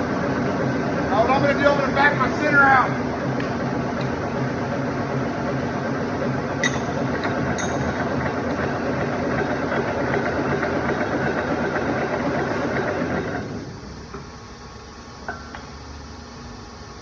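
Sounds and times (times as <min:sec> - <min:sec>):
lathe humming: 0:00.0 - 0:15.1.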